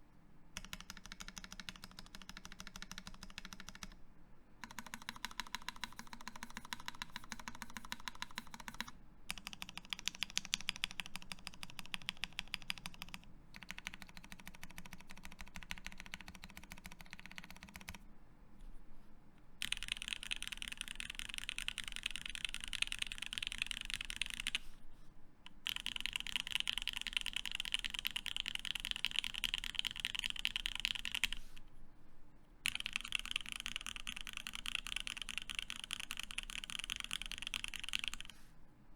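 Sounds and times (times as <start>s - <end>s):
fast typing on mechanical keyboard: 0.6s - 4.0s, 4.6s - 18.0s, 19.6s - 24.6s, 25.6s - 31.4s, 32.7s - 38.4s.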